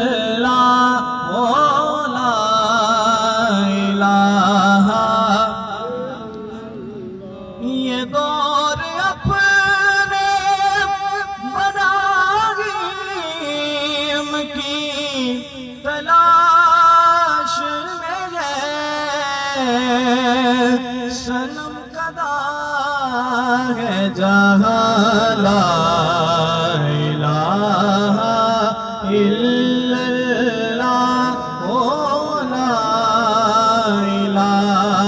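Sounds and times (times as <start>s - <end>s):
person singing devotional song: 0.0s - 35.0s.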